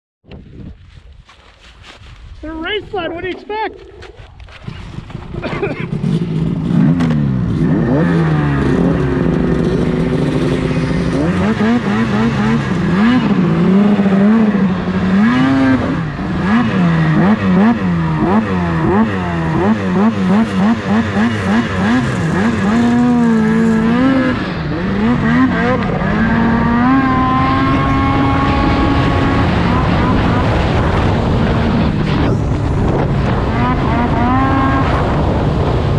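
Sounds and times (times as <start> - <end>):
snowmobile engine revving: 2.6 - 35.9.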